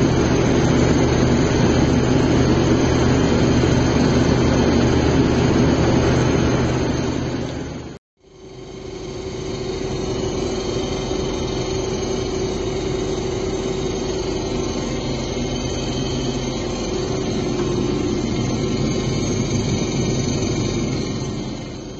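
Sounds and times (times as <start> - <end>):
combine harvester engine drone: 0.0 - 21.9
machine whine: 0.0 - 21.9.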